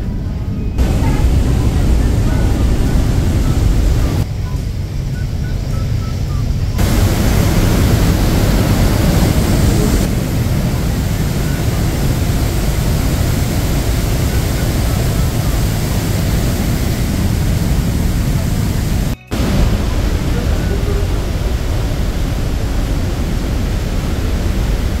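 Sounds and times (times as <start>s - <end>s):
waterfall thundering: 0.8s - 4.3s, 6.8s - 25.0s.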